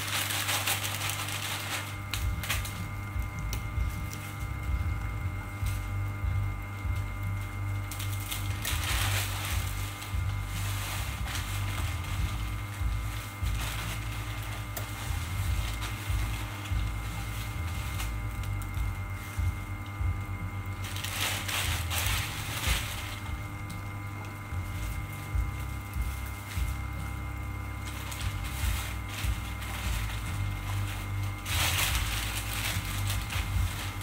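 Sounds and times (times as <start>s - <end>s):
machine humming with steady tones: 0.0s - 34.0s
rough grinding noise: 0.0s - 34.0s.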